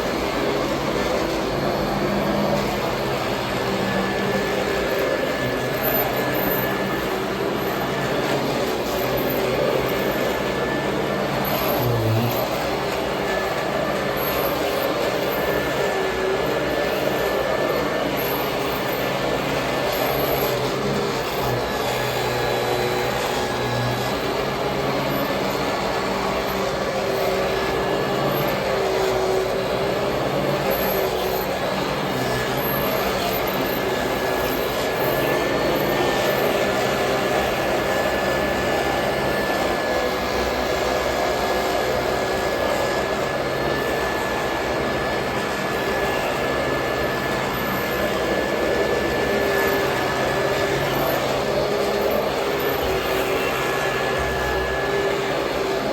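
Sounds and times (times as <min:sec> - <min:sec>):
vacuum cleaner running: 0:00.0 - 0:55.9.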